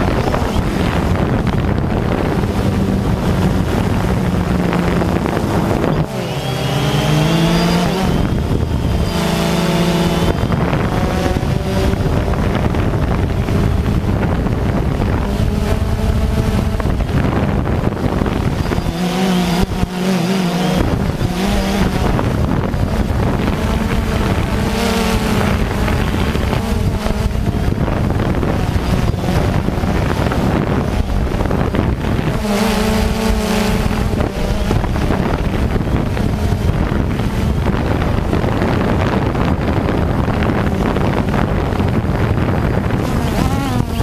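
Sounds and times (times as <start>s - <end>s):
drone motors and propellers: 0.0s - 44.0s
wind rushing over microphone: 0.0s - 44.0s.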